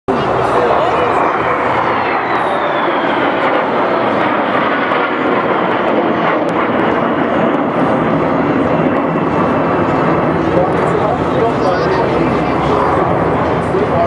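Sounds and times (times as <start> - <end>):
jet engines roaring: 0.1 - 14.0.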